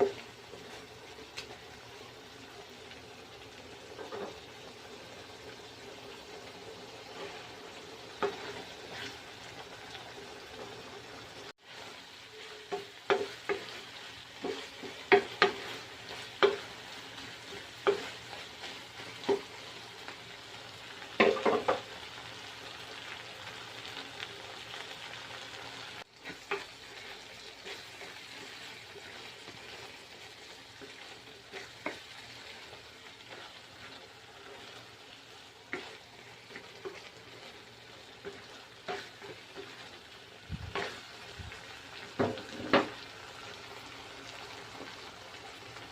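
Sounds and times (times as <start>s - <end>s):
food sizzling in a frying pan: 0.0s - 45.9s.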